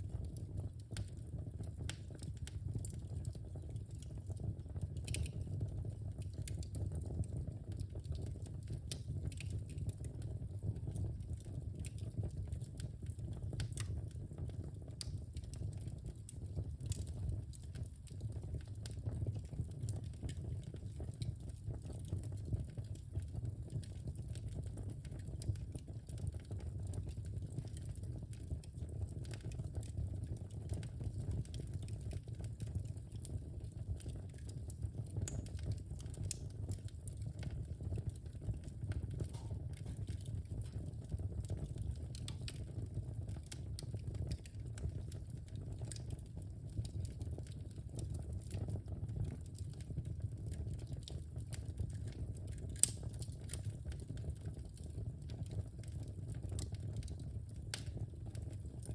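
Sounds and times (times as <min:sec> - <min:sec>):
fire crackling and popping: 0:00.0 - 0:58.9
low rumble of flames: 0:00.0 - 0:58.9.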